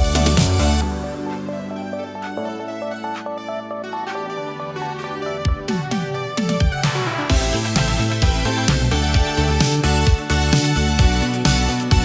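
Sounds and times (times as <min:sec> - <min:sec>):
electronic retro-pop music: 0:00.0 - 0:12.0.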